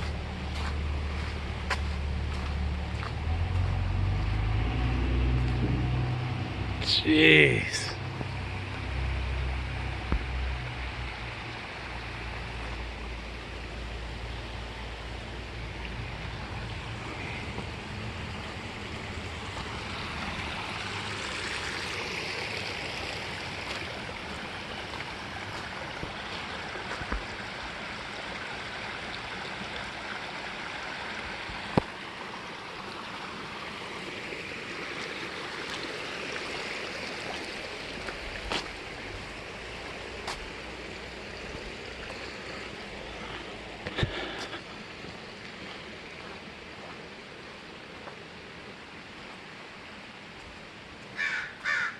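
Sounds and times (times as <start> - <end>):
river rushing: 0.0 - 51.9.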